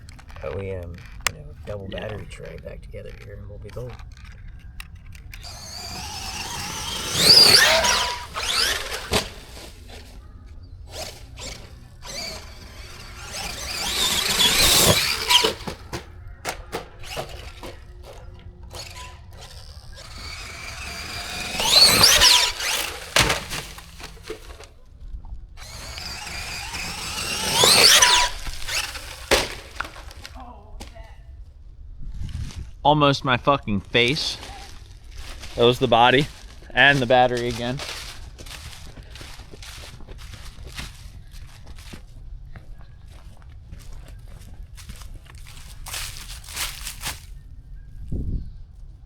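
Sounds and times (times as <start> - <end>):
electric motor and gears whining: 0.0 - 31.0, 34.0 - 48.3.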